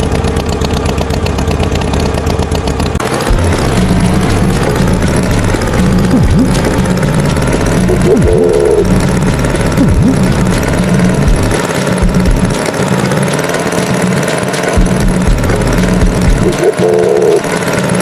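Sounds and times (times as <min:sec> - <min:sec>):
cartoon tractor engine idling: 0:00.0 - 0:18.0.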